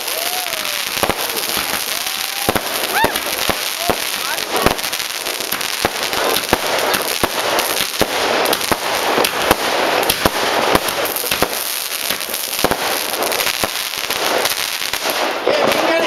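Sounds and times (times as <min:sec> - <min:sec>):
firework crackling: 0:00.0 - 0:16.0
firework shots and bursts: 0:00.0 - 0:16.0.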